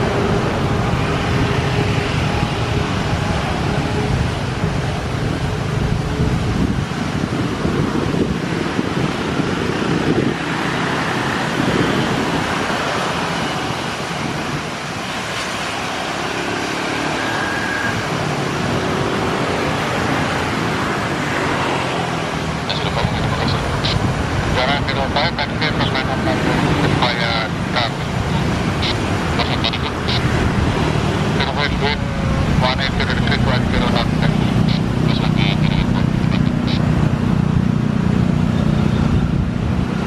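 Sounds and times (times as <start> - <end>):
jet engines running at low power: 0.0 - 40.0.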